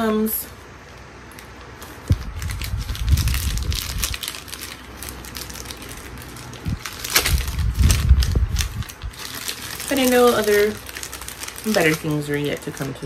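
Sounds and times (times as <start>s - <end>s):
snack wrapper crinkling: 1.3s - 13.0s.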